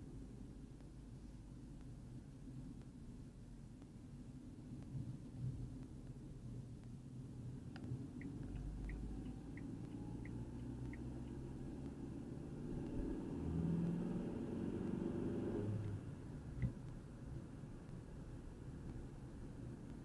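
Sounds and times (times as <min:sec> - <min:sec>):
car engine and road rumble: 0:00.0 - 0:20.0
turn signal ticking: 0:00.0 - 0:20.0.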